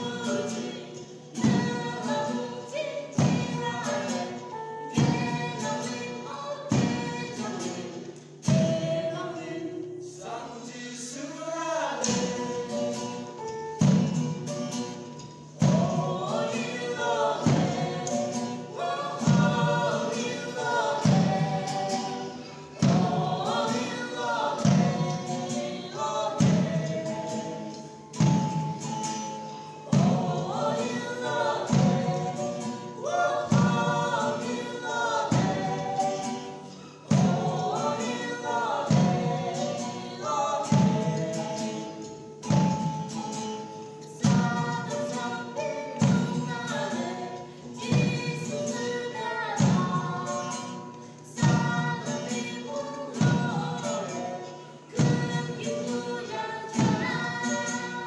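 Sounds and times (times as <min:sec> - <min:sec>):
woman singing: 0:00.0 - 0:14.4, 0:15.6 - 0:28.5, 0:29.2 - 0:42.9, 0:44.1 - 0:58.0
guitars: 0:00.0 - 0:58.0.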